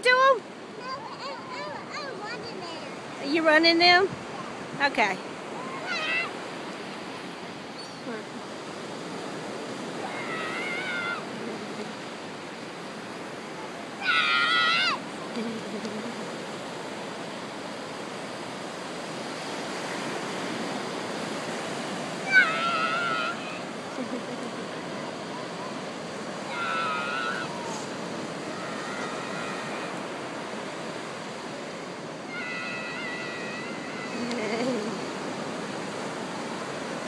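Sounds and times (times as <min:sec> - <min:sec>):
ocean surf washing: 0:00.0 - 0:37.0.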